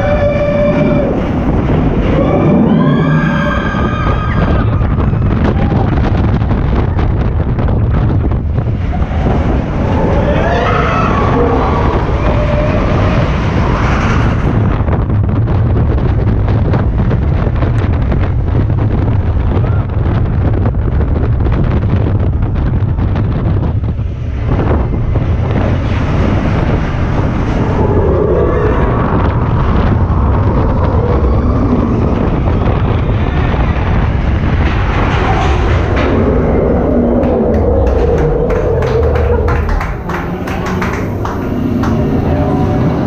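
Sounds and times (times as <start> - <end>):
roller coaster rumbling on track: 0.0 - 43.0
wind buffeting microphone: 0.0 - 43.0.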